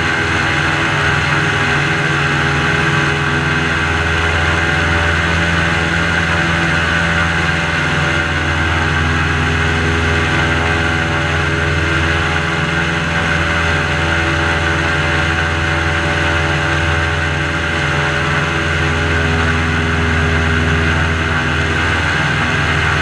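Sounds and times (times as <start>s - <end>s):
airboat engine and propeller drone: 0.0s - 23.0s.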